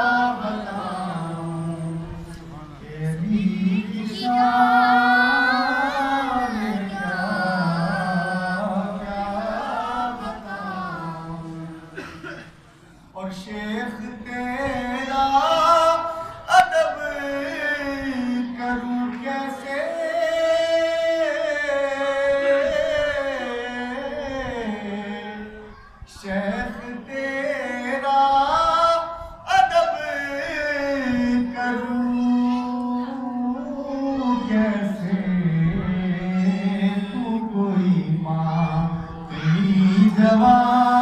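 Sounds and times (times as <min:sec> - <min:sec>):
man singing into a microphone: 0:00.0 - 0:12.3, 0:13.2 - 0:41.0.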